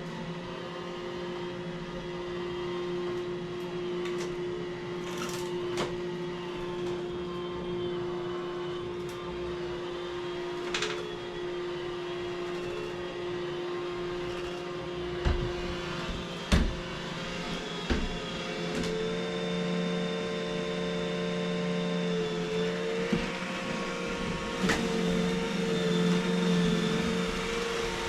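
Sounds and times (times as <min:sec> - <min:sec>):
vacuum cleaner motor hum: 0:00.0 - 0:28.0.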